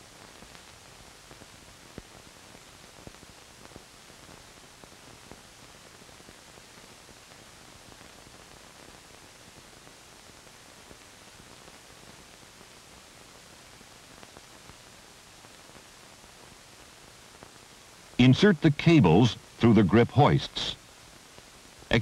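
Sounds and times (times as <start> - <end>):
film soundtrack hiss: 0.0 - 22.0.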